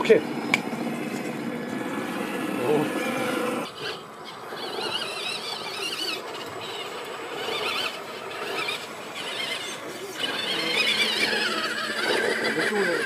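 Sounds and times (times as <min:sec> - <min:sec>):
rc car motor whining: 0:00.0 - 0:13.0.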